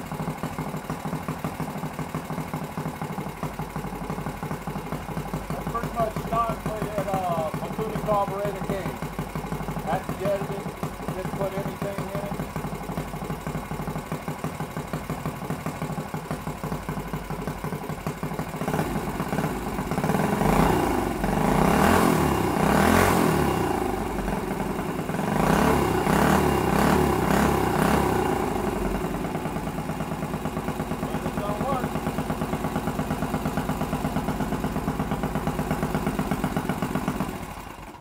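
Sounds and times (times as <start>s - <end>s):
small engine idling and revving: 0.0s - 38.0s.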